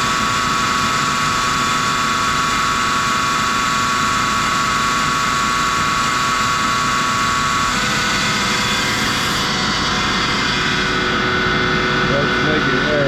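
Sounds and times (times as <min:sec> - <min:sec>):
air compressor whine and hiss: 0:00.0 - 0:13.0.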